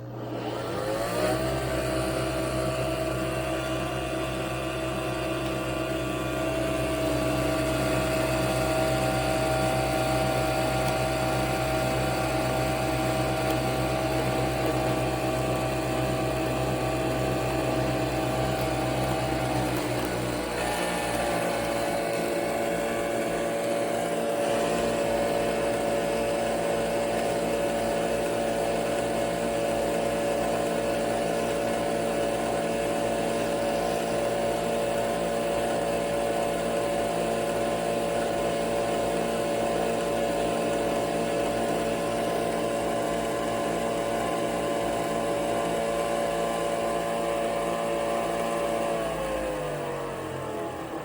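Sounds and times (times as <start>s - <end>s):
coffee machine motor whirring: 0.0s - 51.0s.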